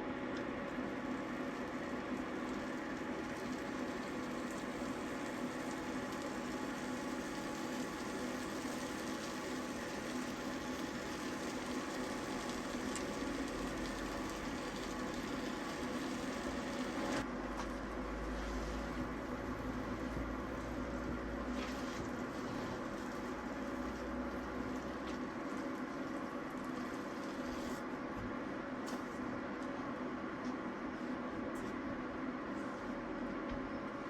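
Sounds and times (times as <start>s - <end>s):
mechanical hum with faint hiss: 0.0s - 34.0s.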